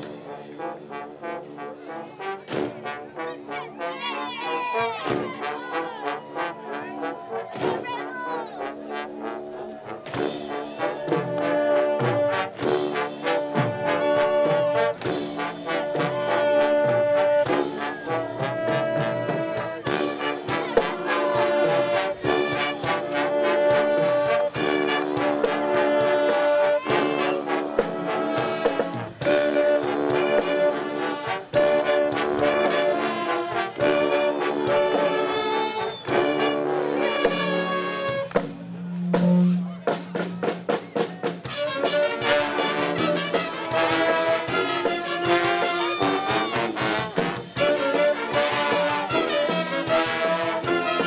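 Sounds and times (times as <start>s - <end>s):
brass band playing: 0.0s - 51.0s
steady drum beat: 9.5s - 51.0s.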